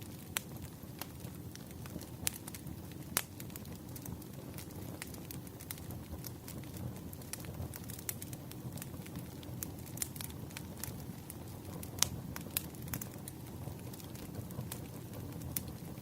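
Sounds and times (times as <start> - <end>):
burning firewood crackling: 0.0 - 16.0.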